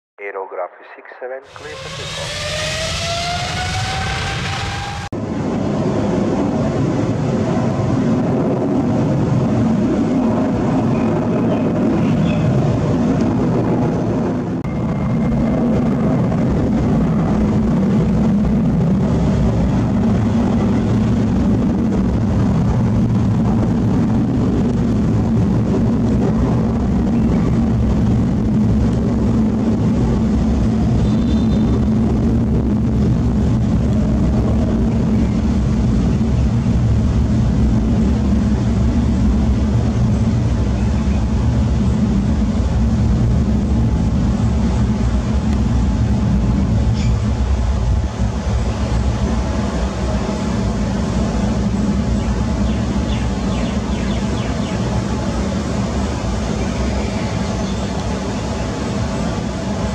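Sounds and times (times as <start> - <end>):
jet engines rumbling: 0.2 - 59.9.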